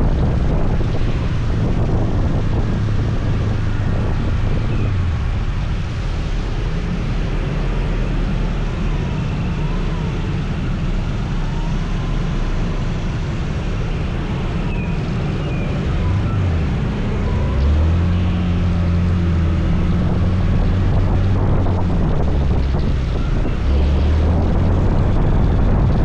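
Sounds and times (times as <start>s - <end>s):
scooter engine and tyre noise: 0.0s - 26.0s
wind on microphone: 0.0s - 26.0s.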